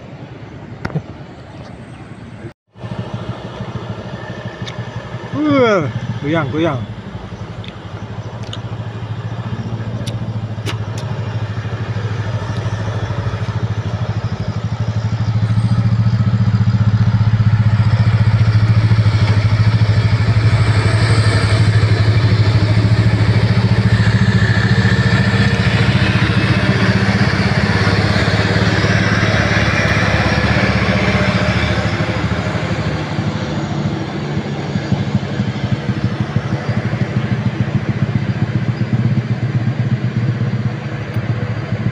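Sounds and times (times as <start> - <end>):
truck diesel engines passing: 0.0 - 41.9.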